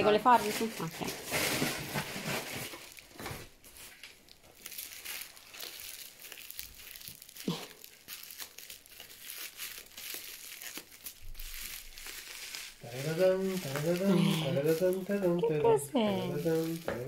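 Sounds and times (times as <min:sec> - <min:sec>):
bubble-wrap mailer crinkling: 0:00.0 - 0:17.0.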